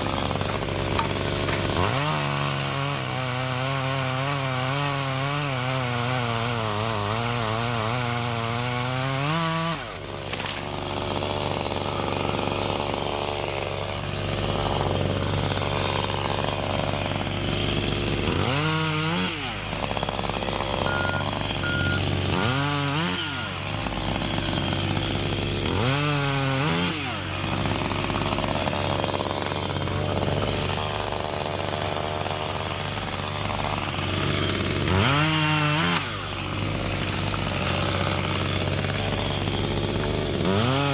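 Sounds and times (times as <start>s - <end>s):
electric chainsaw cutting wood: 0.0s - 40.9s.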